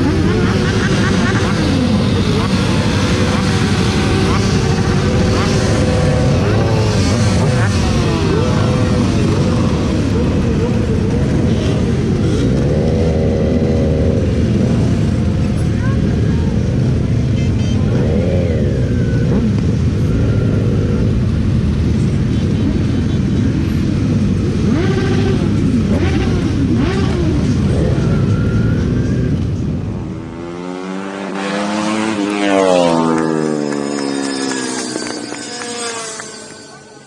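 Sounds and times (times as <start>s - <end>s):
motorcycle engine: 0.0s - 37.0s
wind and road noise: 0.0s - 37.0s.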